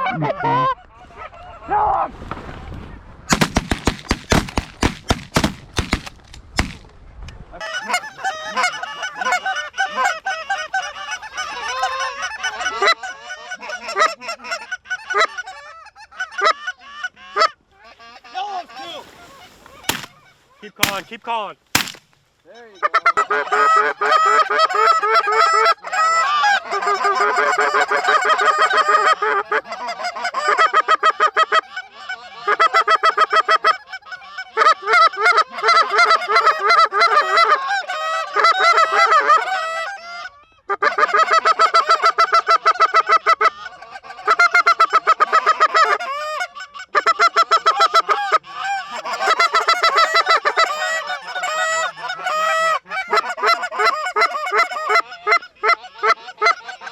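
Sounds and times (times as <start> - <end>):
goose call honks and clucks: 0.0 - 1.6, 7.6 - 21.2, 21.8 - 56.9.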